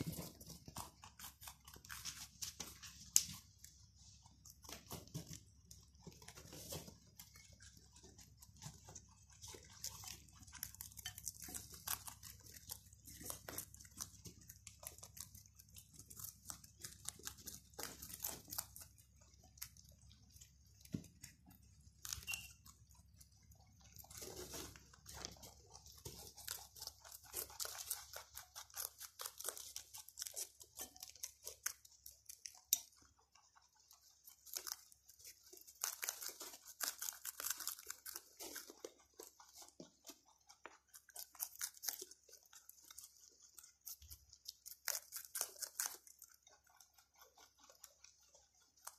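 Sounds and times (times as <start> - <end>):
rabbits chewing vegetables: 0.0 - 48.9.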